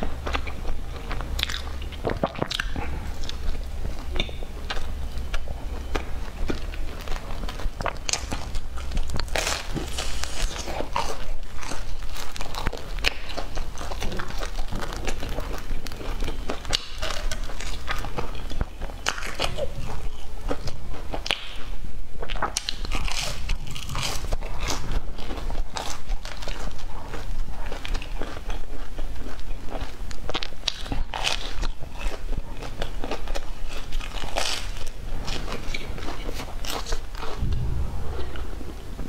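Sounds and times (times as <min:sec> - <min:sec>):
crunching of crusty bread: 0:00.0 - 0:37.8.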